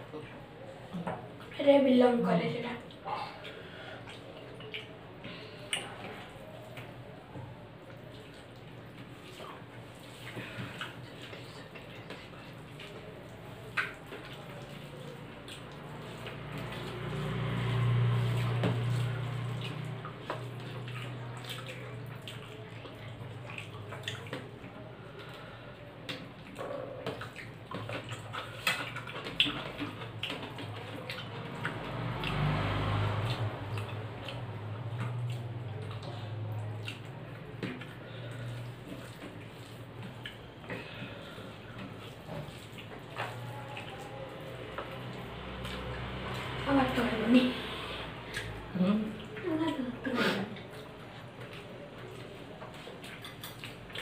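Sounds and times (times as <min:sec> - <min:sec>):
wet squishing of rice mixed by hand: 0:00.0 - 0:54.0.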